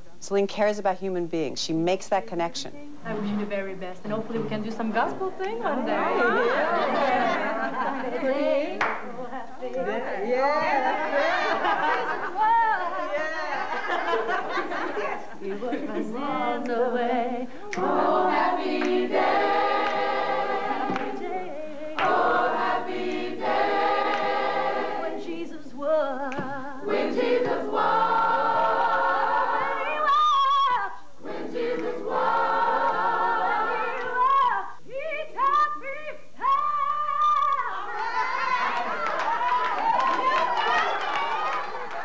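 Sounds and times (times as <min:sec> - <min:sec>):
voices singing a cappella: 0:04.0 - 0:42.0.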